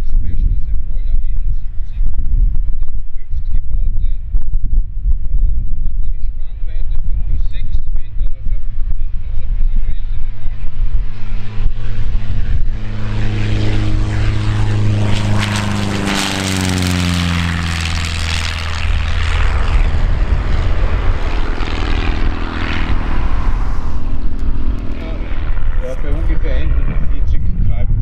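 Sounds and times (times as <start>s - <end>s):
propeller plane passing low: 0.0s - 28.0s.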